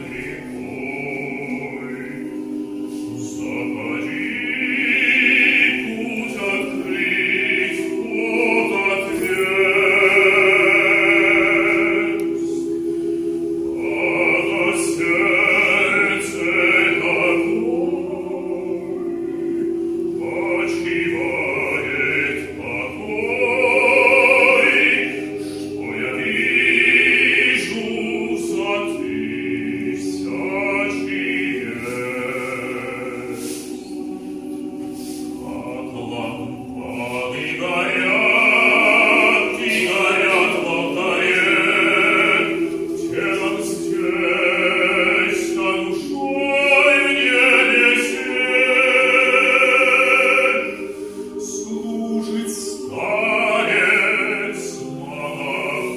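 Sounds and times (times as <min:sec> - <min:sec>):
male vocal ensemble singing: 0:00.0 - 0:55.9.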